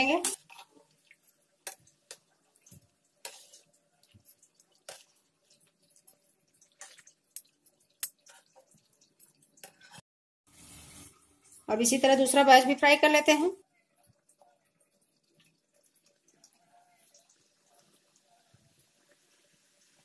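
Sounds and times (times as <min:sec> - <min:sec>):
hot oil dripping: 0:00.0 - 0:12.8, 0:13.6 - 0:20.0.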